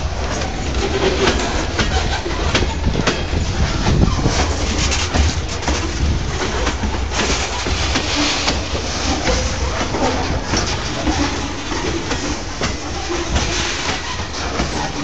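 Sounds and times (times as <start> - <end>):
train wheels rumbling on rail: 0.0 - 15.0
wheels clacking on rail joints: 0.0 - 15.0.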